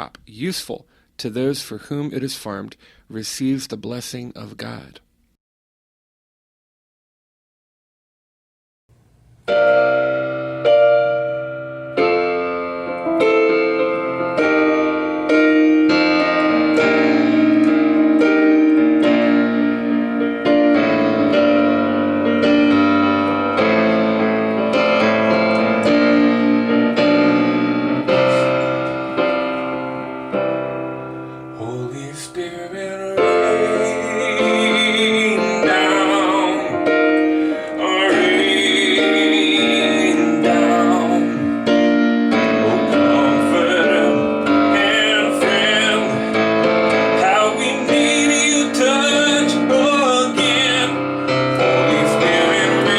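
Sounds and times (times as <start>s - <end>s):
piano chords: 8.9s - 52.9s.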